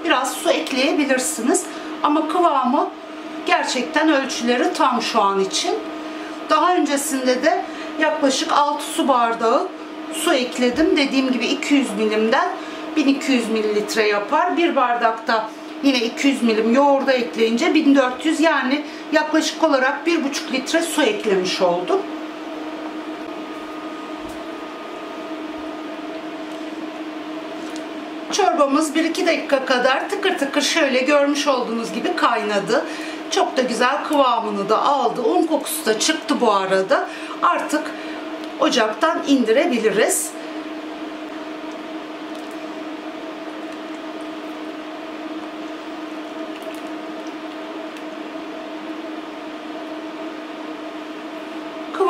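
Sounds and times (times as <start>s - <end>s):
induction hob humming: 0.0s - 52.0s.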